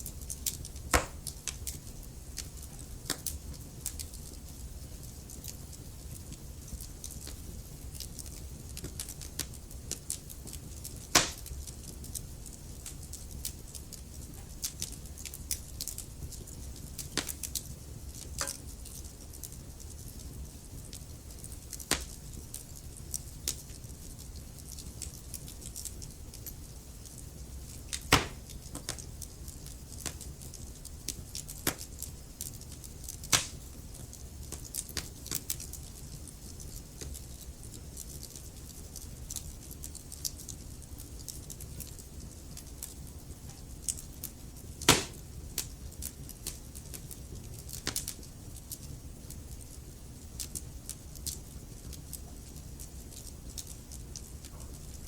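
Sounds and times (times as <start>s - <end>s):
fire crackling and popping: 0.0s - 55.0s
fire rumbling: 0.0s - 55.0s.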